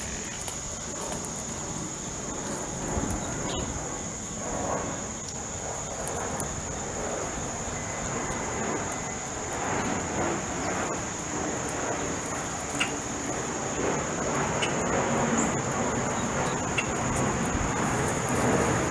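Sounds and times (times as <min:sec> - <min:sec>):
high-pitched insect drone: 0:00.0 - 0:18.9.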